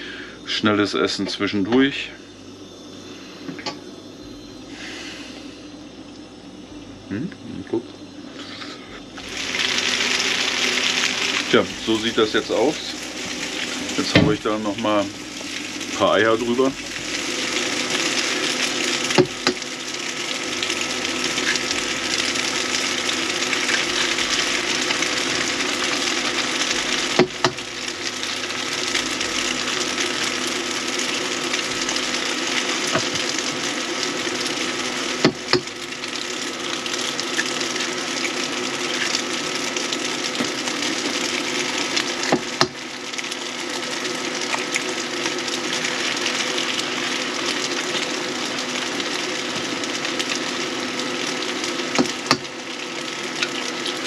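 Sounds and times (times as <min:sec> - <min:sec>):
steady low hum: 0:00.0 - 0:54.0
food sizzling in a pan: 0:08.4 - 0:54.0.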